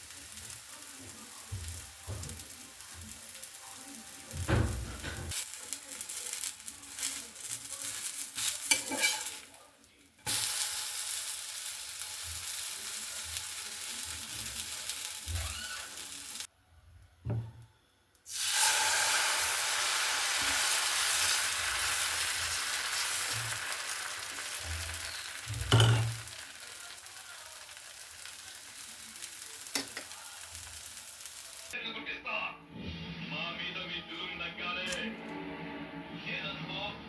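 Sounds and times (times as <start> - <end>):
food sizzling in hot oil: 0.0 - 16.5, 18.3 - 31.8.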